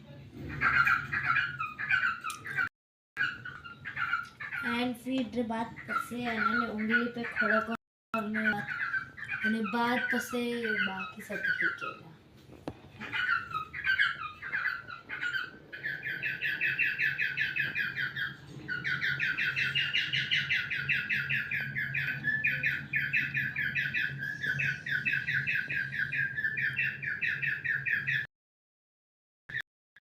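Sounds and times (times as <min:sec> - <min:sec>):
cockatiel chirping: 0:00.5 - 0:04.9, 0:05.6 - 0:12.0, 0:12.9 - 0:28.2.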